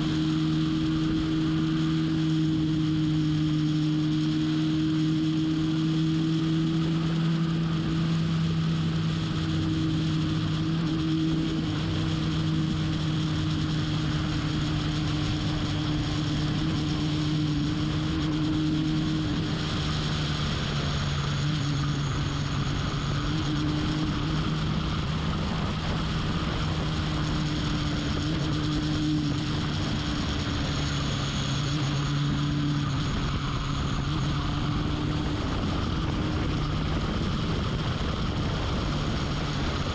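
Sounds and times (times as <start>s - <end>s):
race car engine running steadily: 0.0s - 39.9s
rush of noise: 0.0s - 39.9s.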